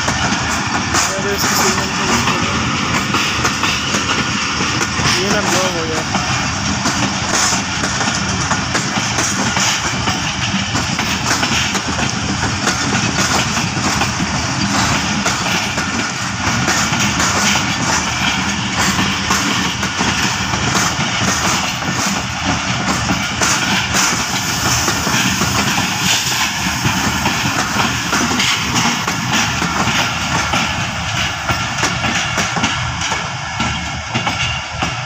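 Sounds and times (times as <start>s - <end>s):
train coaches rumbling past: 0.0s - 35.0s.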